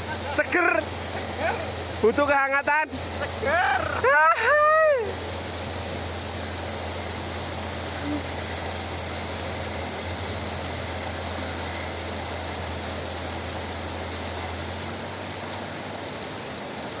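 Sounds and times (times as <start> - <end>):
engine idling: 0.0 - 17.0
heavy rain falling: 0.0 - 17.0.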